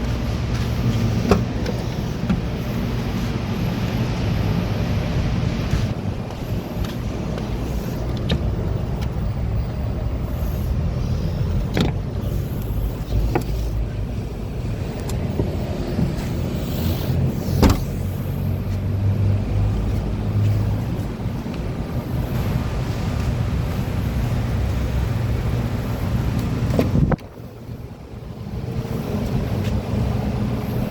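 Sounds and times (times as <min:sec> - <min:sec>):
car engine humming: 0:00.0 - 0:30.9.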